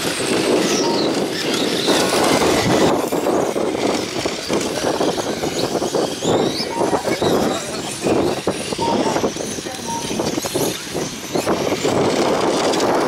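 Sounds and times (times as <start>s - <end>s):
high whines gliding in pitch: 0.0s - 11.6s
rc cars racing past: 0.0s - 13.0s.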